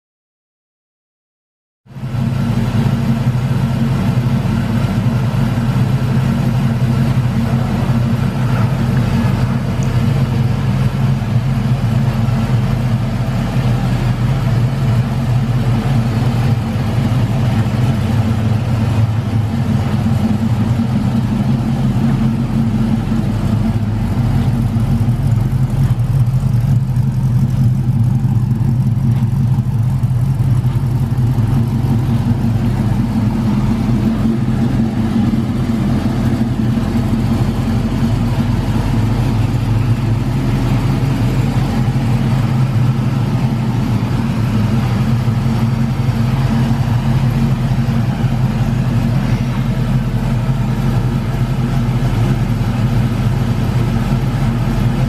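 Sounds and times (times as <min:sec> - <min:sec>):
car engine idling: 0:01.9 - 0:55.0.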